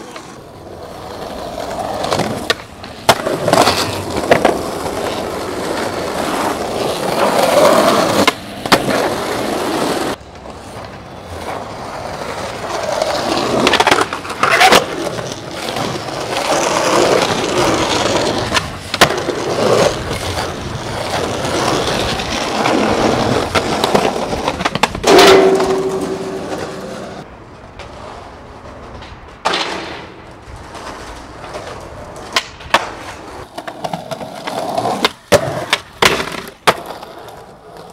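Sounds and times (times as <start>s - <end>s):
skateboard grinding along a ledge: 0.0s - 37.9s
skateboard popping and landing: 0.0s - 37.9s
skateboard wheels rolling on concrete: 0.0s - 37.9s.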